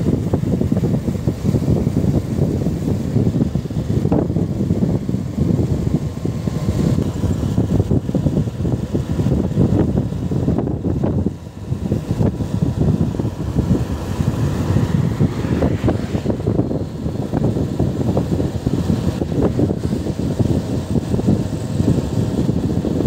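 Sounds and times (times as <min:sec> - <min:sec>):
motorcycle running: 0:00.0 - 0:23.0
road noise: 0:00.0 - 0:23.0
wind buffeting microphone: 0:00.0 - 0:23.0.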